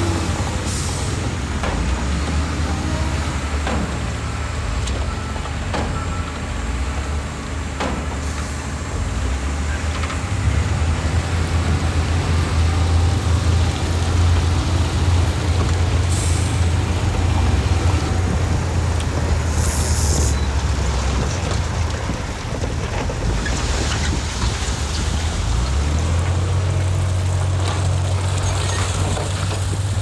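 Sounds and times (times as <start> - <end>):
heavy diesel machinery droning: 0.0 - 30.0.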